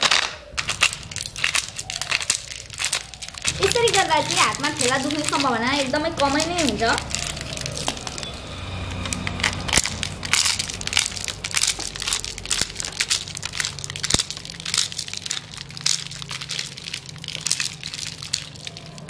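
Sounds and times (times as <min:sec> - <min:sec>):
kernels pattering on concrete: 0:00.0 - 0:19.0
maize kernels crackling off cob: 0:00.0 - 0:19.0.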